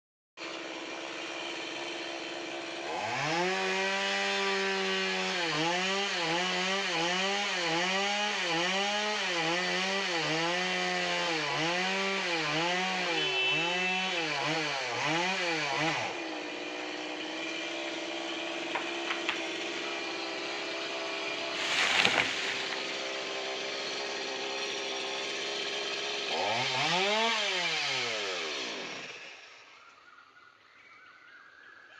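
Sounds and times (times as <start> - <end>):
chainsaw engine revving: 0.4 - 29.6.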